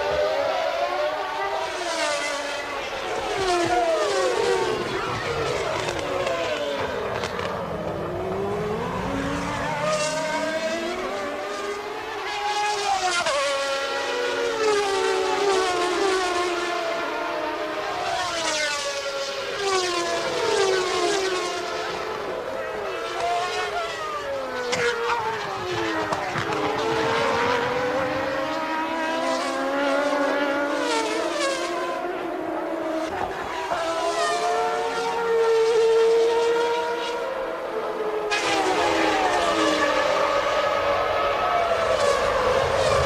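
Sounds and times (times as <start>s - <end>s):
racing car engines at high revs: 0.0s - 43.0s.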